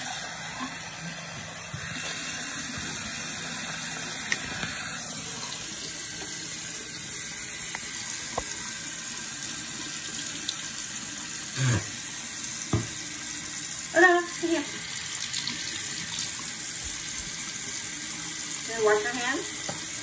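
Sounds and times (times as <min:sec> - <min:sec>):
tap water running into sink: 0:00.0 - 0:20.0.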